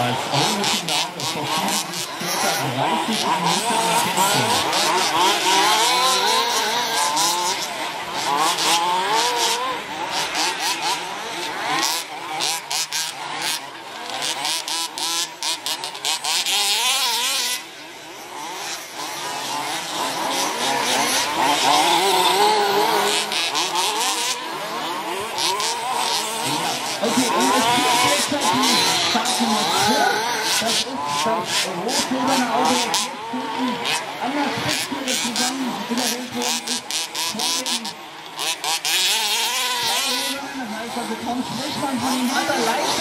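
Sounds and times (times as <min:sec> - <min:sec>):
small engines revving: 0:00.0 - 0:43.0.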